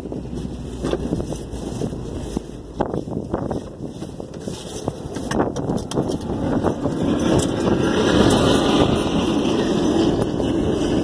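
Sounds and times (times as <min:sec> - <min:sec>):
road traffic noise: 0:00.0 - 0:11.0
wind buffeting microphone: 0:00.0 - 0:11.0.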